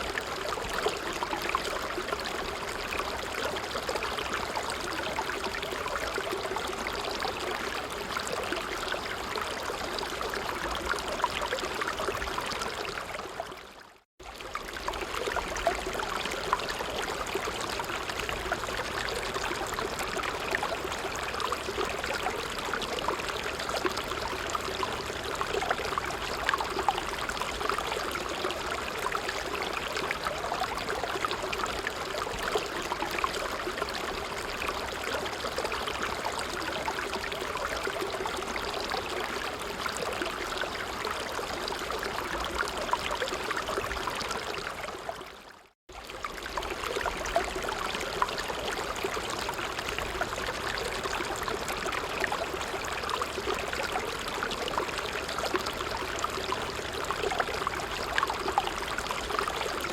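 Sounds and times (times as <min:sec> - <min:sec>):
creek babbling: 0:00.0 - 0:59.9.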